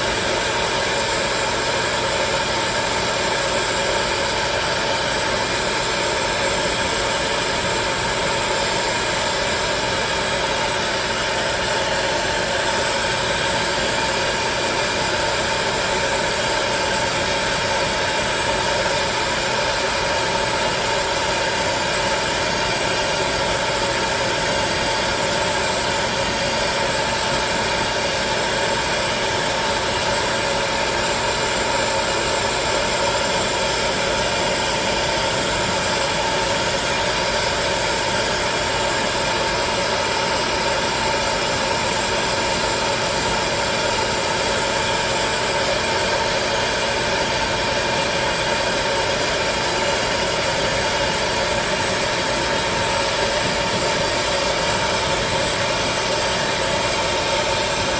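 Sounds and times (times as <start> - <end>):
popcorn popper fan whining: 0.0 - 57.9.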